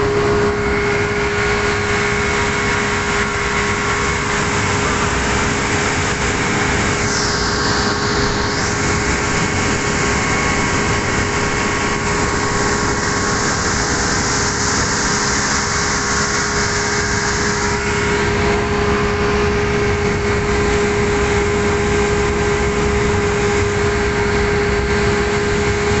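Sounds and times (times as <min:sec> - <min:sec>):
speedboat engine running: 0:00.0 - 0:26.0
wind hiss: 0:00.0 - 0:26.0.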